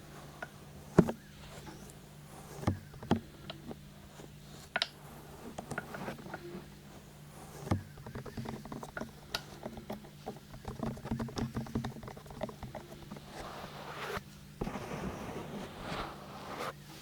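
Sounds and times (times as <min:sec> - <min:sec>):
soft rubbing: 0:00.0 - 0:17.0
fingertips tapping: 0:00.2 - 0:14.2.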